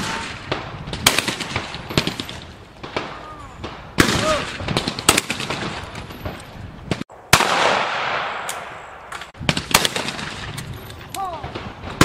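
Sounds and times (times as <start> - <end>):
shotgun shots echoing: 0.0 - 10.6.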